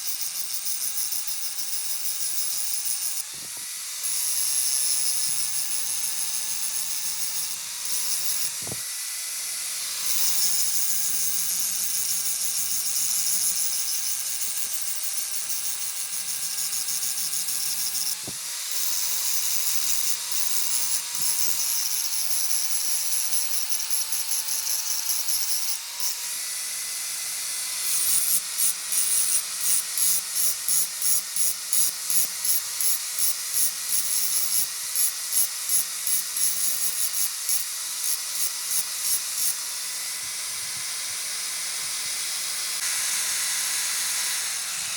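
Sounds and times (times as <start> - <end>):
power grinder whining on metal: 0.0 - 44.9.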